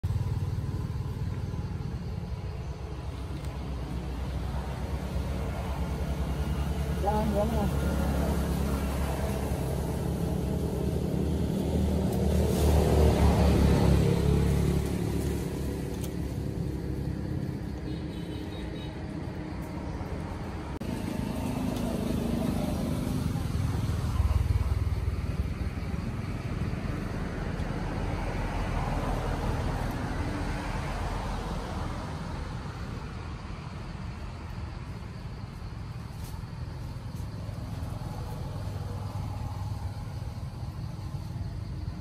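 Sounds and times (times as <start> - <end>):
low outdoor rumble: 0.0 - 42.0.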